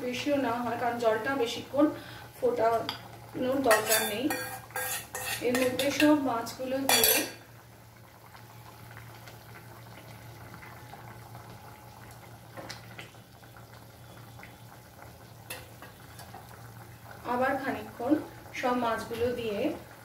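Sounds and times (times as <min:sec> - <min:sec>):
curry bubbling: 0:01.3 - 0:20.0.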